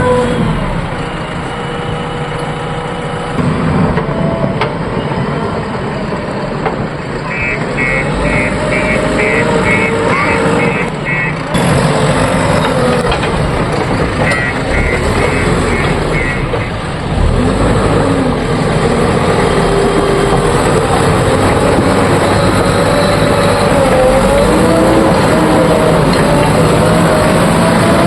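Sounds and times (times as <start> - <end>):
heavy diesel engines running: 0.0 - 28.0.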